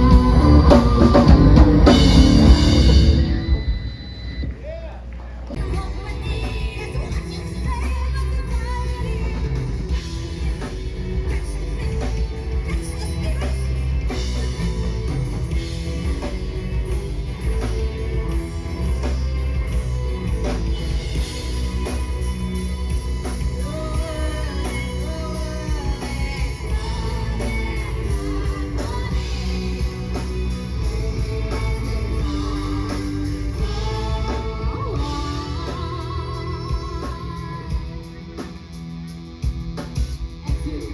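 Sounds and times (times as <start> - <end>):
person singing: 0.0 - 3.5, 5.6 - 38.4
live rock band playing: 0.0 - 4.6, 5.5 - 40.9.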